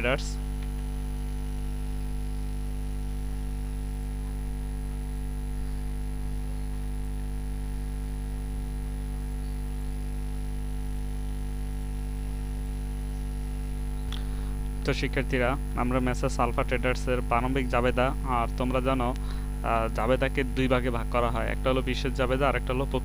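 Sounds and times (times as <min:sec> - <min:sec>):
electrical mains hum: 0:00.0 - 0:23.0
faint high whine: 0:00.0 - 0:23.0.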